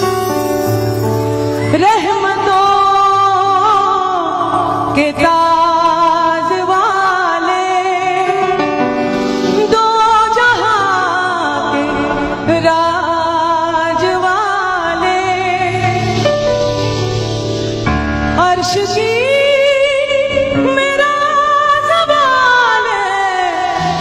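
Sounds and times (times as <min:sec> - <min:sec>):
instrumental accompaniment: 0:00.0 - 0:06.6, 0:07.4 - 0:24.0
woman singing into microphone: 0:01.5 - 0:16.6, 0:18.3 - 0:24.0.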